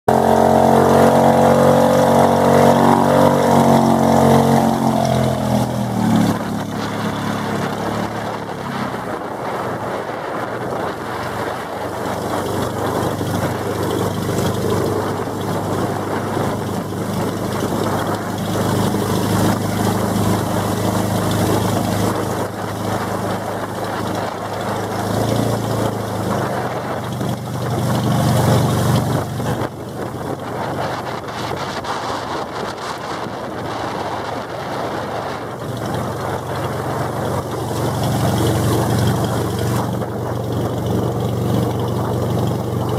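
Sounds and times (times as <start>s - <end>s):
boat engine running: 0.0s - 42.9s
rush of wind and water: 0.1s - 42.9s.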